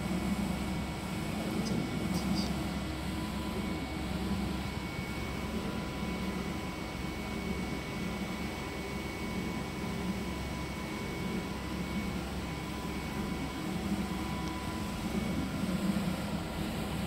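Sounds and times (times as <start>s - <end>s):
printer machine hum: 0.0s - 17.0s.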